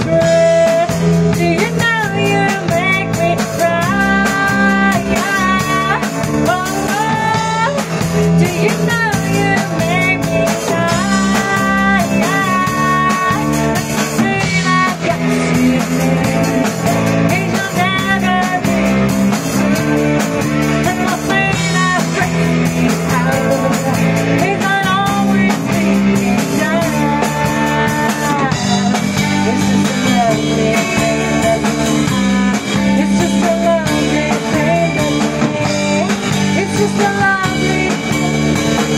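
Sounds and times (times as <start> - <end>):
acoustic and electric guitars: 0.0 - 38.9
drum kit: 0.0 - 38.9
woman singing: 0.0 - 38.9.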